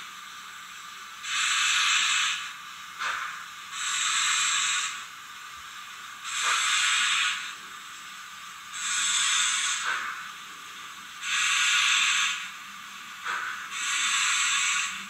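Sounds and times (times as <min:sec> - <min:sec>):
steam hisses through small speaker: 0:00.0 - 0:15.0.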